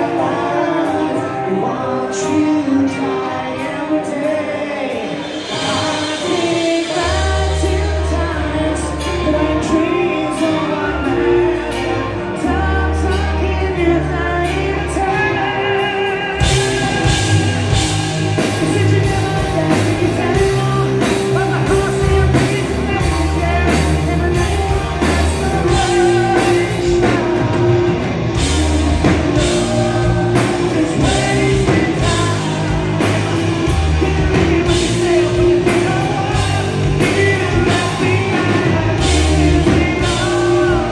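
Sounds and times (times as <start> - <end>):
bass notes: 0.0 - 40.9
drums: 0.0 - 40.9
lead singer singing: 0.0 - 40.9
live hard rock band: 0.0 - 40.9.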